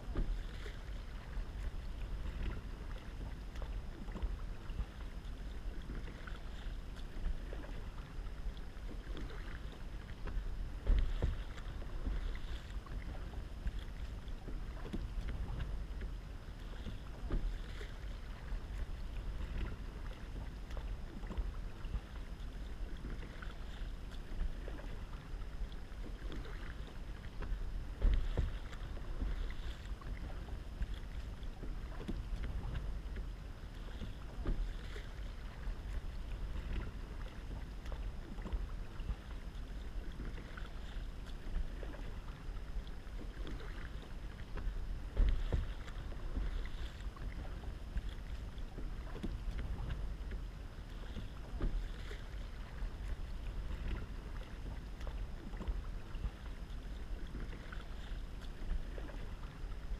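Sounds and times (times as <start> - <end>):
paddle splashing in water: 0.0 - 59.9
wind on microphone: 0.0 - 59.9.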